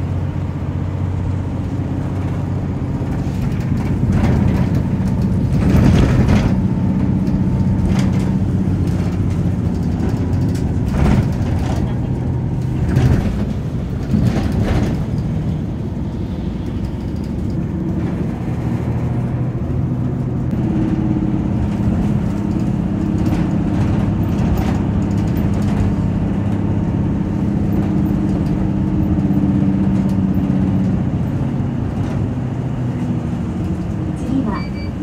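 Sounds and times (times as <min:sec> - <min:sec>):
vehicle engine and tyres drone: 0:00.0 - 0:35.0.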